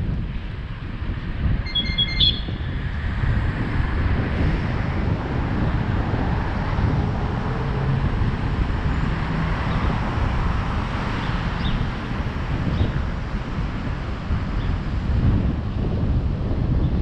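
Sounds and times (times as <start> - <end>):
road and city traffic noise: 0.0 - 17.0
wind buffeting microphone: 0.0 - 17.0.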